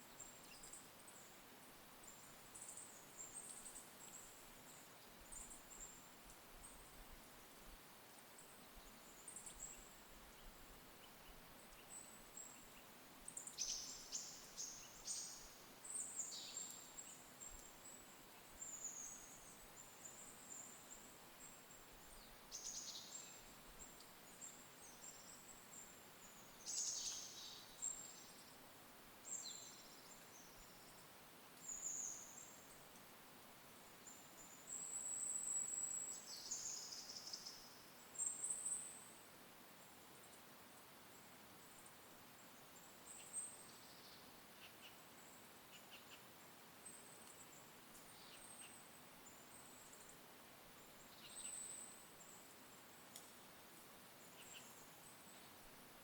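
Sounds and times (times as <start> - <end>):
quiet forest ambience: 0.0 - 56.0
songbird chirps: 0.0 - 56.0.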